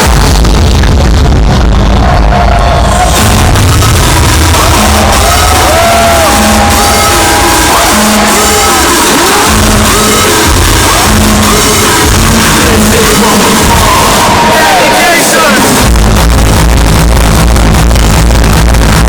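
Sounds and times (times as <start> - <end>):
heavy kick drum: 0.0 - 14.5, 15.7 - 19.0
hardstyle music through loudspeakers: 0.0 - 19.0
crowd shouting and whooping: 1.1 - 19.0.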